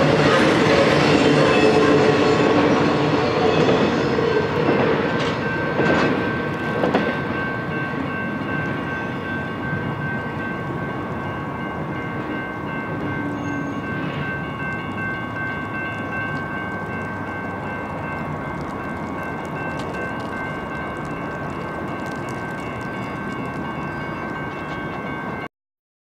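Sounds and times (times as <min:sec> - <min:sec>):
freight train cars rolling past: 0:00.0 - 0:25.5.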